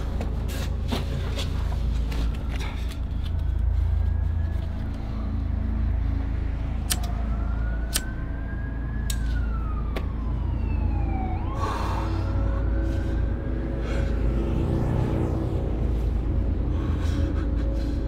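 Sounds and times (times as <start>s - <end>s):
low rumble: 0.0s - 18.0s
siren wailing: 2.0s - 17.8s.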